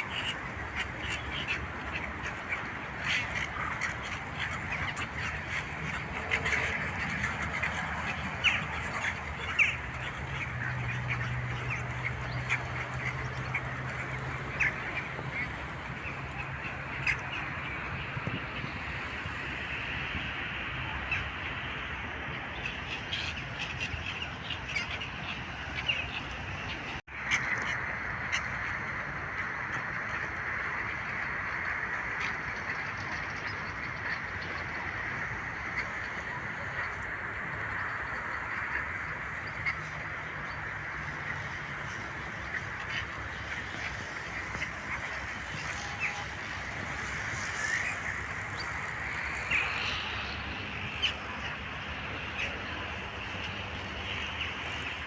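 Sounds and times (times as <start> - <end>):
chorus of birds calling: 0.0 - 55.0
ducks quacking: 0.0 - 55.0.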